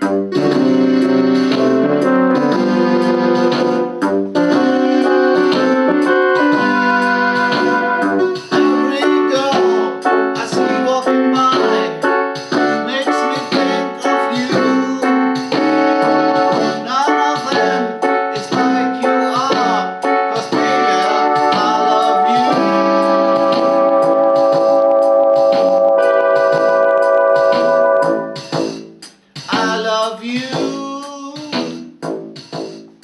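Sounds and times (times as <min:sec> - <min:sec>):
electronic keyboard piano voice: 0:00.0 - 0:28.8.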